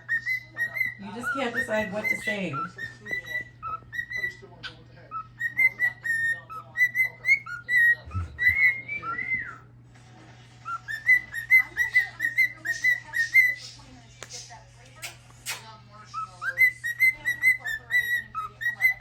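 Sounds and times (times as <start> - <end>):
cockatiel whistling: 0.0 - 9.7, 10.6 - 13.8, 15.0 - 19.0.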